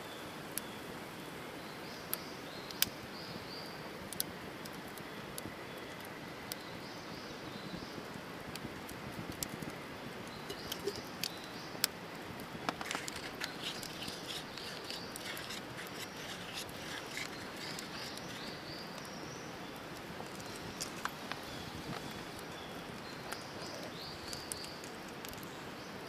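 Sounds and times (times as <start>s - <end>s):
campfire crackling and popping: 2.0s - 3.0s, 3.7s - 6.8s, 7.7s - 25.8s.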